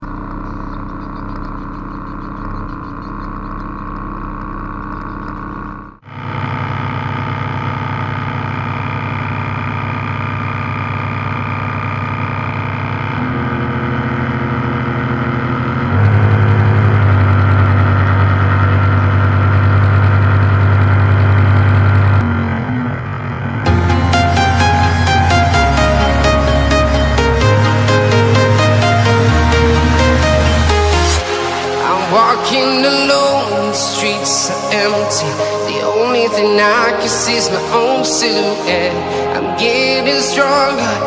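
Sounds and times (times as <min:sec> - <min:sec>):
model boat motor humming: 0:00.0 - 0:41.0.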